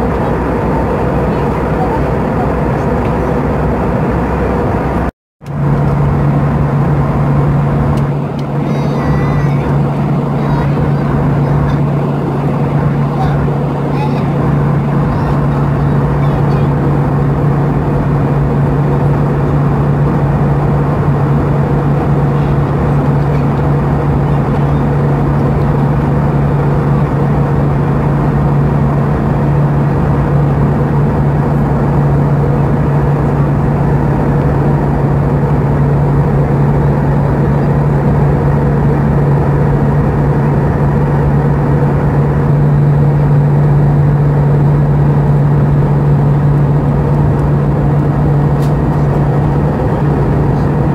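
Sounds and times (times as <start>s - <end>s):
jet engine roar in cabin: 0.0s - 50.9s.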